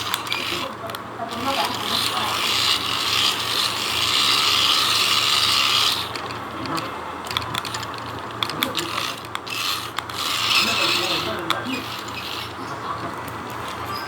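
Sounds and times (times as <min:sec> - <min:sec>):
rapid clicks and ratcheting: 0:00.0 - 0:14.0
toy motor whirring: 0:00.0 - 0:14.0.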